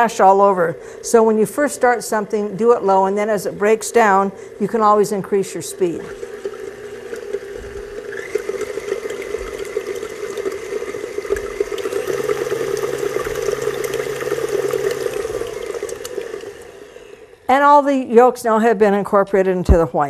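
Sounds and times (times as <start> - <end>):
stand mixer beating eggs: 0.1 - 17.5.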